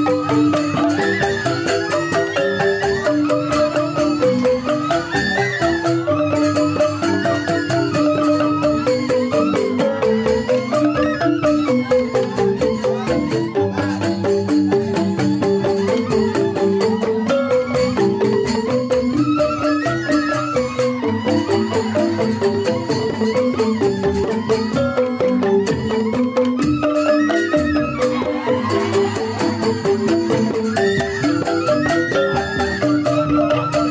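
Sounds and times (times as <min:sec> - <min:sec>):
bamboo flute melody: 0:00.0 - 0:33.9
bamboo xylophones rippling notes: 0:00.0 - 0:33.9.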